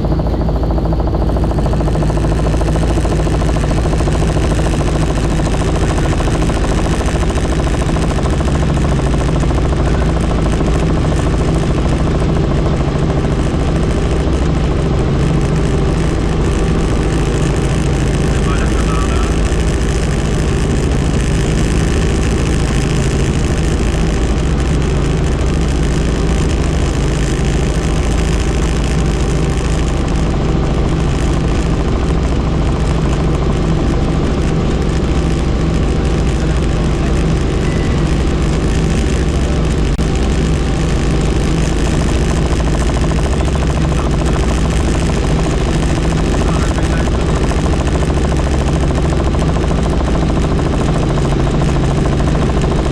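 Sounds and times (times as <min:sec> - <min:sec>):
helicopter engine and rotor: 0:00.0 - 0:52.9.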